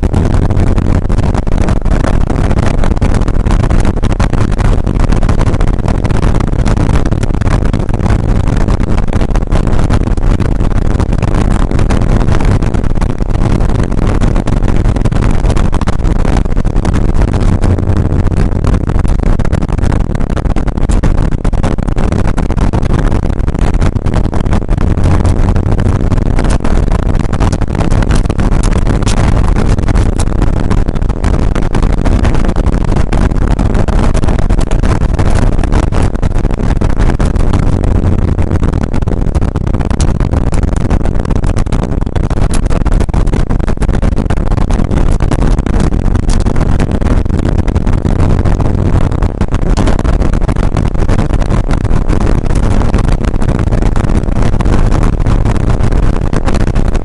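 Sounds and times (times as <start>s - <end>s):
car engine running hard: 0.0s - 36.1s, 37.2s - 42.8s, 44.9s - 50.2s
tyre and road noise: 0.0s - 53.2s.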